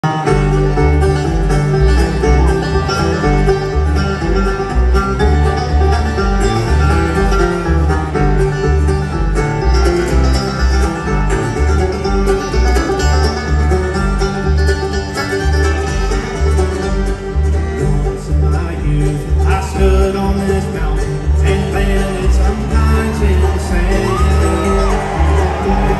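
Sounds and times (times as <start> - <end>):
acoustic guitars strummed and picked: 0.0 - 25.9
bluegrass band playing: 0.0 - 25.9
upright bass beat: 0.0 - 25.9.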